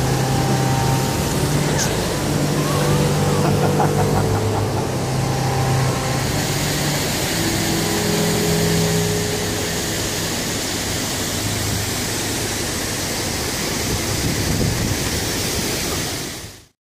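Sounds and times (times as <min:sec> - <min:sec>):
boat engine humming: 0:00.0 - 0:16.7
broad rushing noise: 0:00.0 - 0:16.8.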